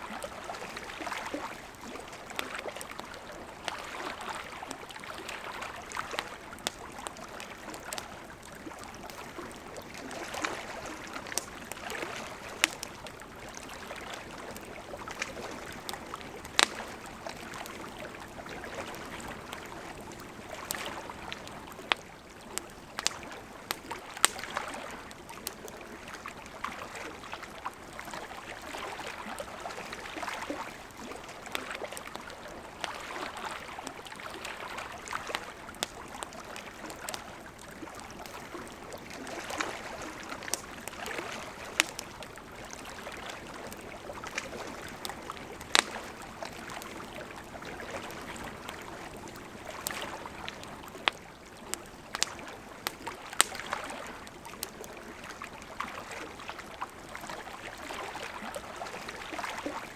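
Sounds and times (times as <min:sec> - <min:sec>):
campfire crackling and popping: 0:00.0 - 0:59.9
river flowing: 0:00.0 - 0:59.9.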